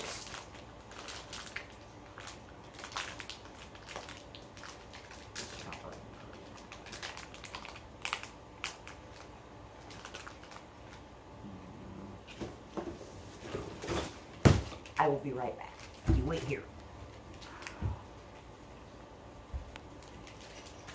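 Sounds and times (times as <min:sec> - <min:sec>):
plastic packaging crinkling: 0:00.0 - 0:11.1, 0:13.7 - 0:18.4, 0:19.9 - 0:20.9.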